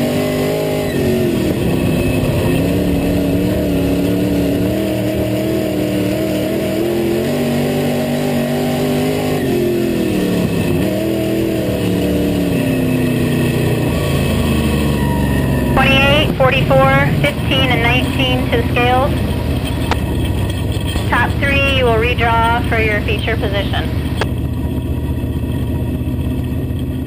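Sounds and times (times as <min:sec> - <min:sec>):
race car engine running: 0:00.0 - 0:27.0.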